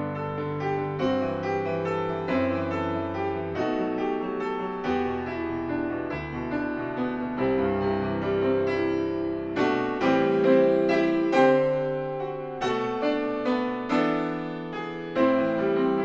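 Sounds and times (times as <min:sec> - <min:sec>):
slow gentle piano piece: 0:00.0 - 0:16.0.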